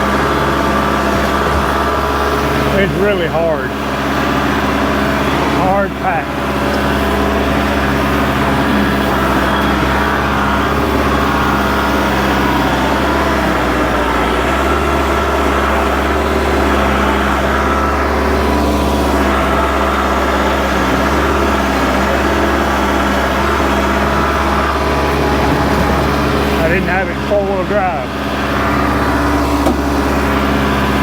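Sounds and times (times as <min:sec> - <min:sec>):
diesel tractor engine running: 0:00.0 - 0:31.0.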